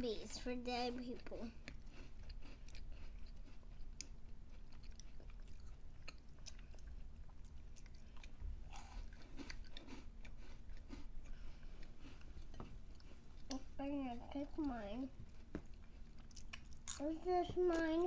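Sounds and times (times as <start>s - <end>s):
chewing food: 0.9s - 18.0s.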